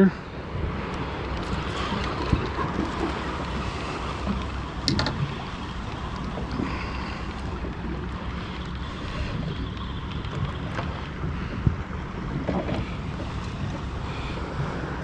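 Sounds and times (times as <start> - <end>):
water lapping against boat hull: 0.2 - 15.0.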